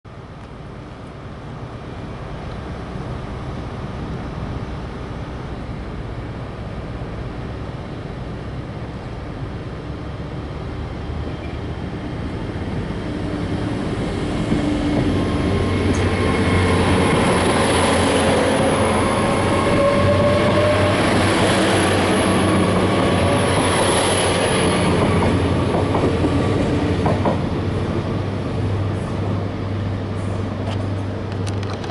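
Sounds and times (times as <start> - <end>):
diesel train engines running: 0.1 - 31.9
train wheels rumbling on rails: 0.1 - 31.9.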